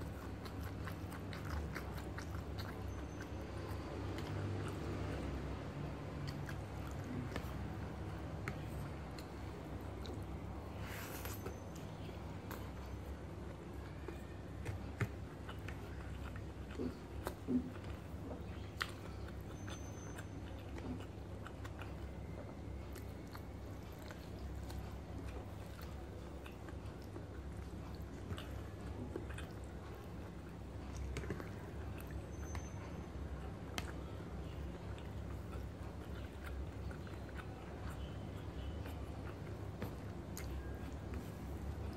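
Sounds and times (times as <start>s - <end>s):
person chewing: 0.0s - 41.9s.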